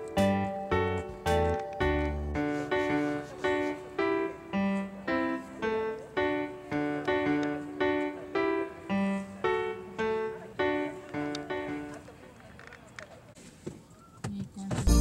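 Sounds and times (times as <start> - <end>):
gentle piano melody: 0.0 - 12.4.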